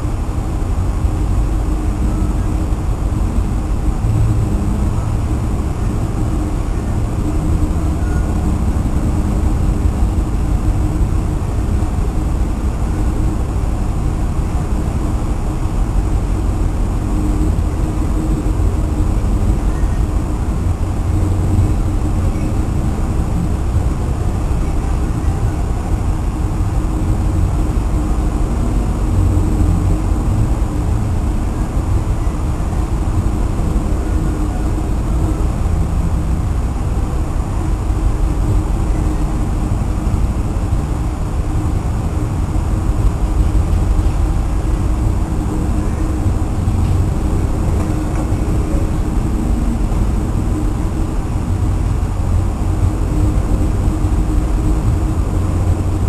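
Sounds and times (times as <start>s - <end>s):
rough sea rushing: 0.0s - 56.0s
steady low hum: 0.0s - 56.0s
wind buffeting microphone: 0.0s - 56.0s.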